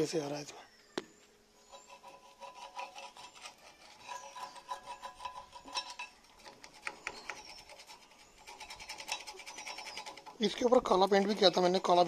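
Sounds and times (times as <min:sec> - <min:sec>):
hand tool scraping paint off metal: 0:01.7 - 0:11.6.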